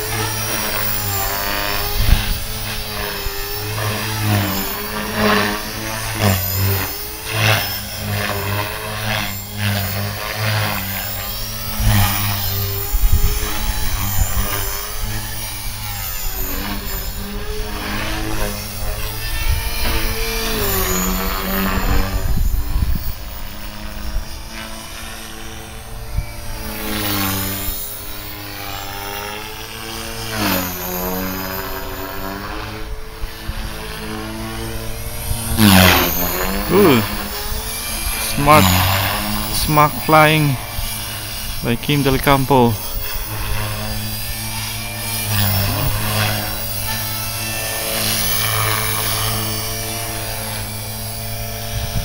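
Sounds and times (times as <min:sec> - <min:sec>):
rc helicopter rotor whine: 0:00.0 - 0:52.0.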